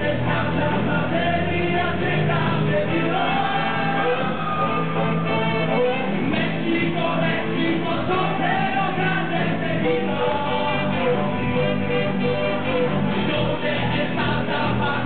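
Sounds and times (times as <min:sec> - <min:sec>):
live rock band playing: 0:00.0 - 0:15.0
person singing: 0:00.0 - 0:15.0.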